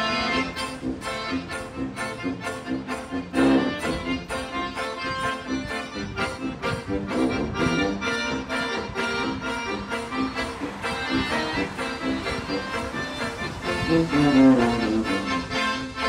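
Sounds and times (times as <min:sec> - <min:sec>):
accordion melody: 0:00.0 - 0:16.0
strummed banjo: 0:00.0 - 0:16.0
tuba bass: 0:00.0 - 0:16.0.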